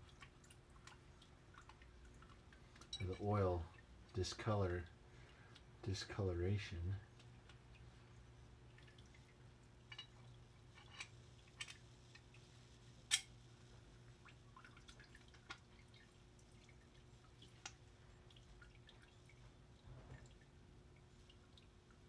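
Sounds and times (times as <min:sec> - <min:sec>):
liquid dripping and splashing: 0:00.0 - 0:06.0, 0:07.0 - 0:22.0.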